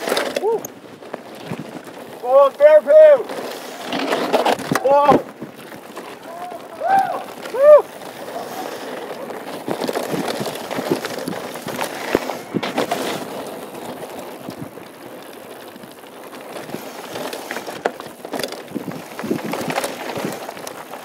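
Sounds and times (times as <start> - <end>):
bike clicks and knocks: 0.0 - 2.4, 3.0 - 21.0
bike tyres crunching on gravel: 0.0 - 21.0.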